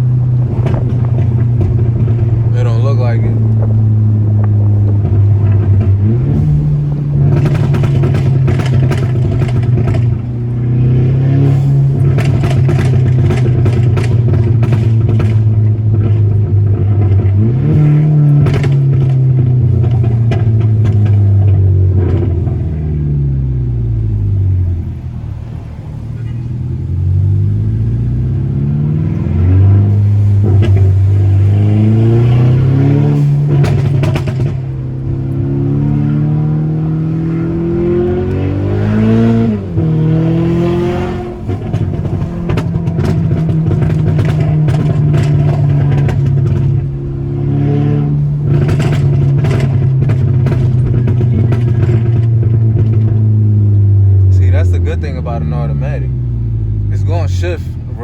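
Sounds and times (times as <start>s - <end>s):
car engine accelerating and shifting: 0.0s - 58.0s
exhaust pops and crackles: 0.0s - 58.0s.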